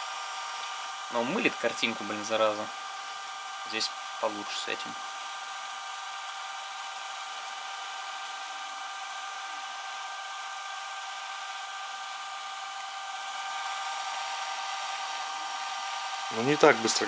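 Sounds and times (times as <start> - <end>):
tape deck motor whine: 0.0 - 17.0.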